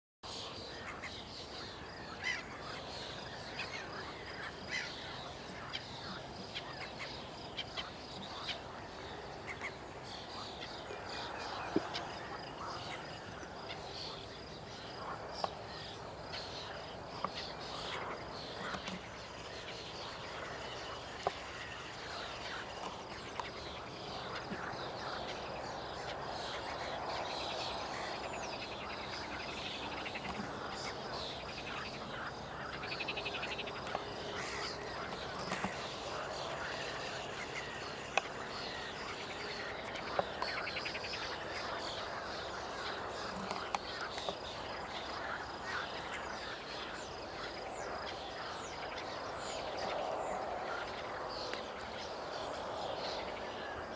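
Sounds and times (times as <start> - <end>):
high-pitched evening bird chorus: 0.2 - 53.9.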